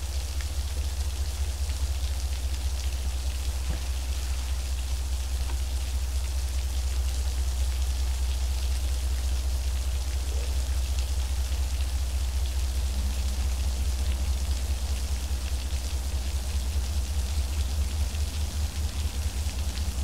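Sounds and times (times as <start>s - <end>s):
heavy rain pattering on roof: 0.0s - 20.0s
low rumble: 0.0s - 20.0s.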